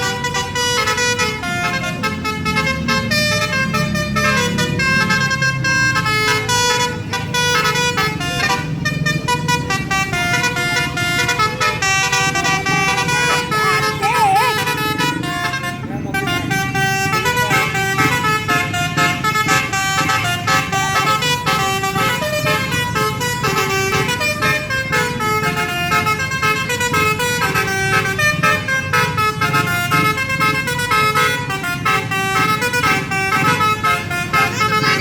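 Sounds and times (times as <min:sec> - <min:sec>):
multi-tone bus horn melody: 0:00.0 - 0:35.0.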